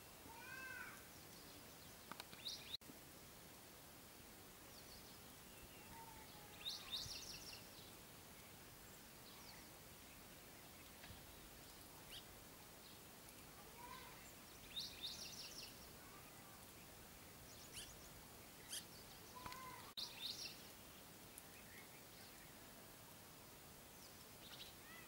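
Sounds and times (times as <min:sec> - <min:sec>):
birds chirping and twittering: 0:00.0 - 0:02.8, 0:04.6 - 0:22.8, 0:23.8 - 0:25.0
low steady hiss: 0:00.0 - 0:25.0.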